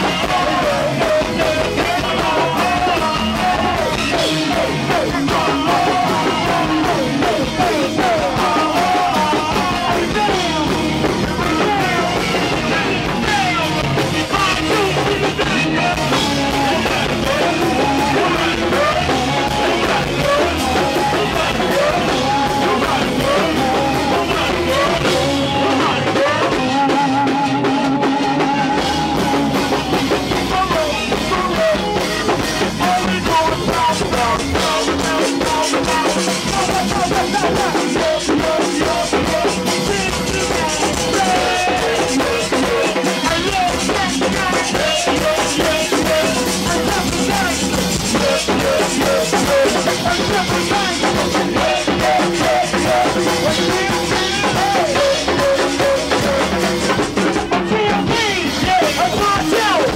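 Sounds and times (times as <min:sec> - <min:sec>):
drum and percussion groove: 0:00.0 - 0:59.9
voices singing or chanting: 0:00.0 - 0:59.9.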